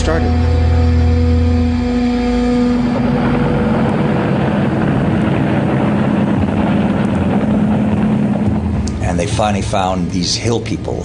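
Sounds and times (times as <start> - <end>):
sustained music chord: 0.0 - 10.2
helicopter engine and rotor: 0.1 - 10.7.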